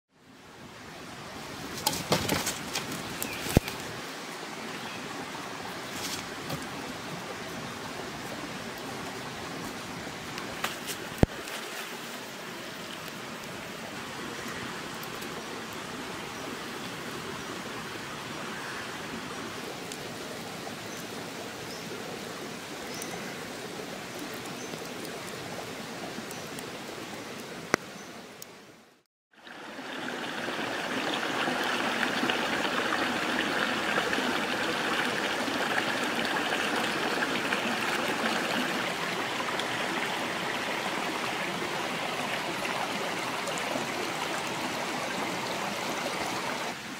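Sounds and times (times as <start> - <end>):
water rushing over stones: 0.6 - 27.9, 29.3 - 46.9.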